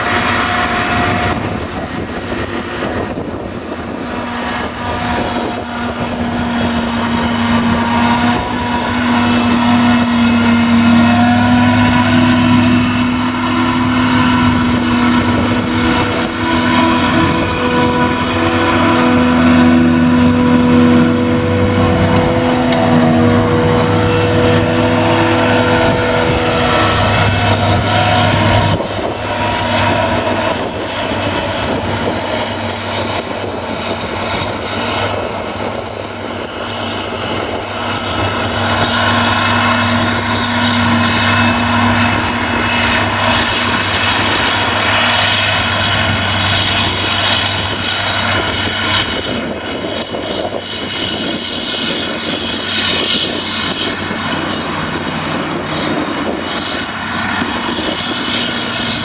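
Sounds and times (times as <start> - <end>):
harvester machinery drone: 0.0 - 59.0
tractor engine: 0.0 - 59.0.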